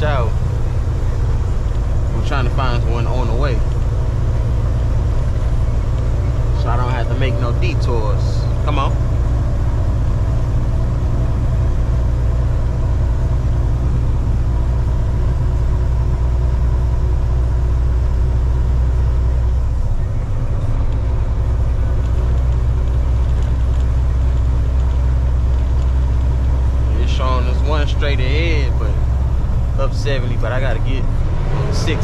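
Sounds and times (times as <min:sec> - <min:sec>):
truck engine and road noise: 0:00.0 - 0:32.0.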